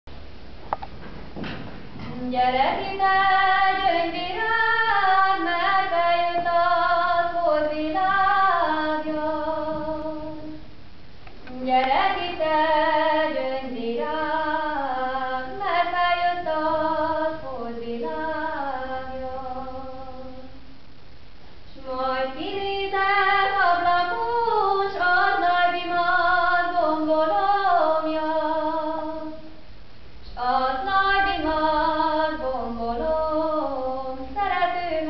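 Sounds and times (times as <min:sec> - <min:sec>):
woman singing unaccompanied: 0:02.1 - 0:10.6, 0:11.5 - 0:20.6, 0:21.7 - 0:29.6, 0:30.2 - 0:35.0.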